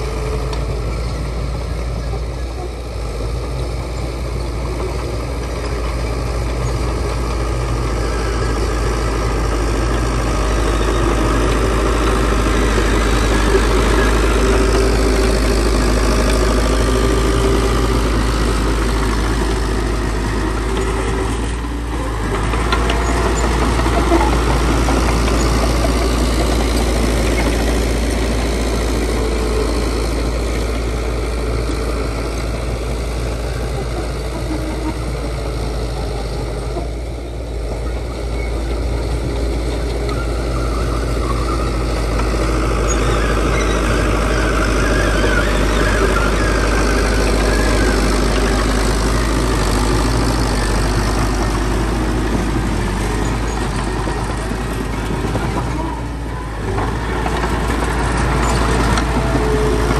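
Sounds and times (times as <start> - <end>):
heavy diesel engine rumbling: 0.0 - 59.9.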